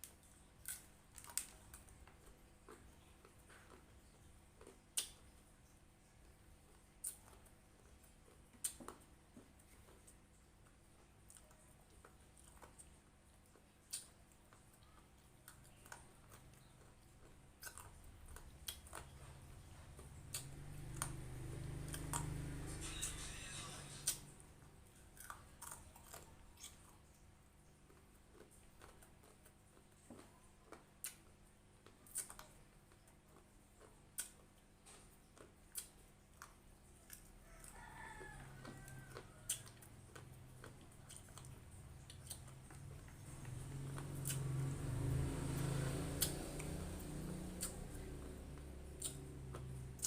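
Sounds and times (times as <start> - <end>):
bite clicks and mouth noises: 0.0 - 50.0
person chewing food: 0.0 - 50.0.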